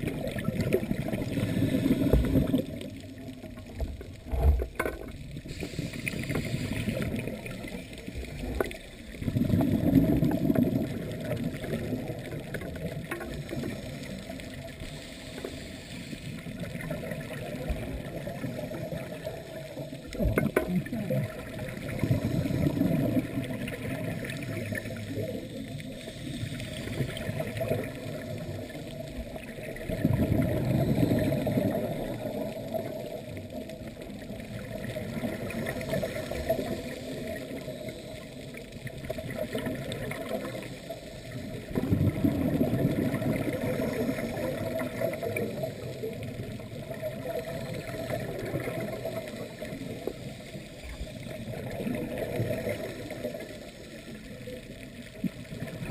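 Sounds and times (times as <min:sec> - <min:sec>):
muffled water hiss: 0:00.0 - 0:55.9
underwater bubbles gurgling: 0:00.0 - 0:55.9.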